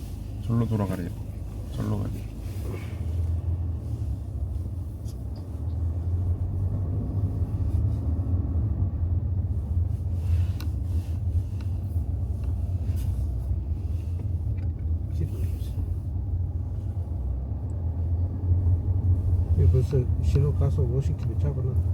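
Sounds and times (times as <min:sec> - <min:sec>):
engine and tyre rumble: 0:00.0 - 0:21.9.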